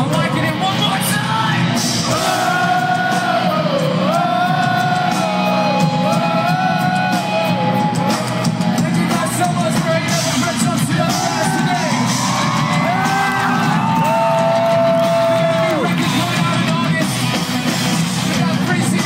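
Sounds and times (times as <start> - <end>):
rock band playing loudly: 0.0 - 19.0.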